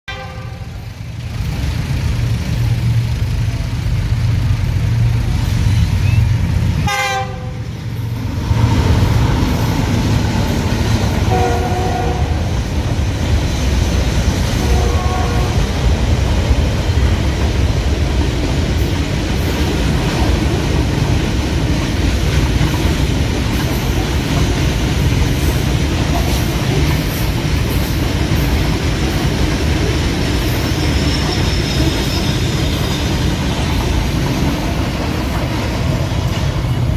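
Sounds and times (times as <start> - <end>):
train rumbling: 0.1 - 36.9.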